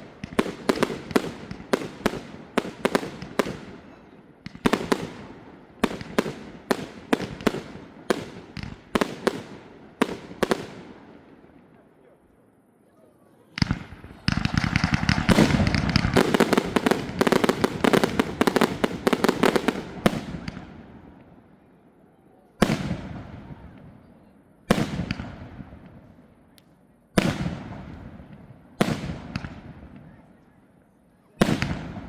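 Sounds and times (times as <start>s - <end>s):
fireworks bangs and crackle: 0.0s - 11.8s, 13.6s - 21.7s, 22.6s - 26.4s, 27.1s - 30.6s, 31.4s - 32.0s
loud echoing firework bangs: 0.0s - 11.8s, 13.6s - 21.5s, 22.6s - 26.2s, 27.2s - 30.3s, 31.4s - 32.0s.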